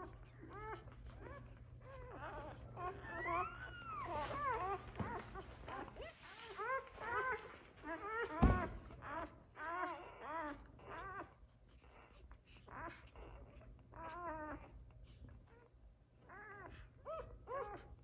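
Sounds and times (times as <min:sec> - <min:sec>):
puppies squeaking and whining: 0:00.0 - 0:18.0.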